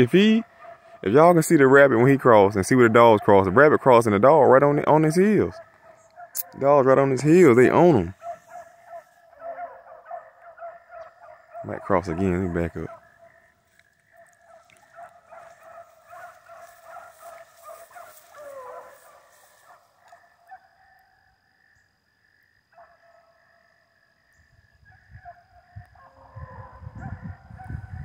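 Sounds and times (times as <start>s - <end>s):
distant dogs baying: 0.0s - 21.7s, 22.6s - 23.9s, 24.7s - 28.0s.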